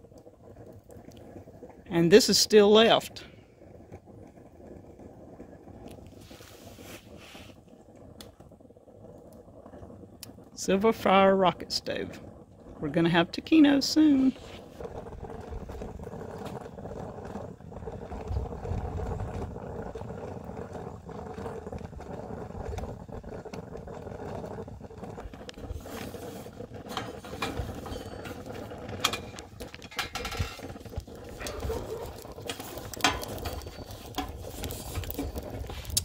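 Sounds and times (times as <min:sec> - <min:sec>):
coffee percolator bubbling: 0:00.0 - 0:36.0.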